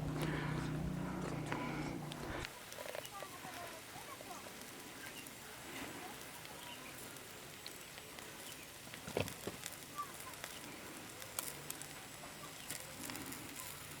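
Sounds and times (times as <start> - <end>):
cooking fire crackling: 0.0 - 14.0.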